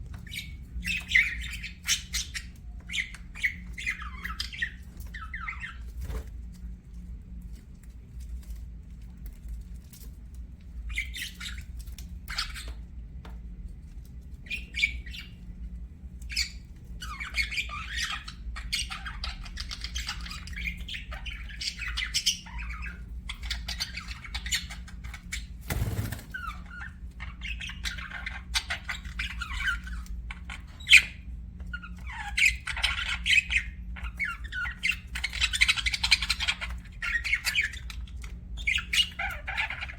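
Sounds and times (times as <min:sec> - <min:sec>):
budgerigars chirping and chattering: 0:00.1 - 0:06.3, 0:10.8 - 0:12.8, 0:14.4 - 0:15.5, 0:16.2 - 0:39.9.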